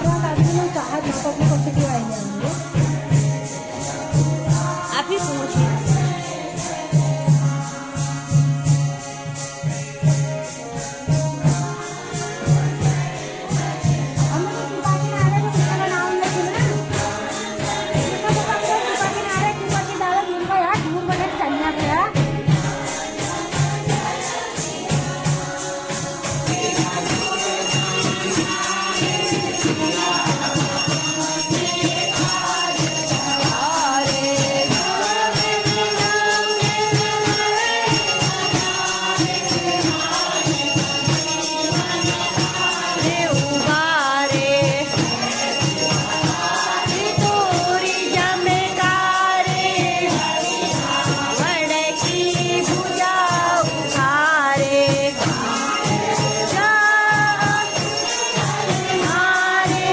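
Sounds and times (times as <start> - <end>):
high bell ringing: 0.0 - 7.5, 10.1 - 59.9
group devotional singing: 0.0 - 59.9
shaken jingle percussion: 0.0 - 59.9.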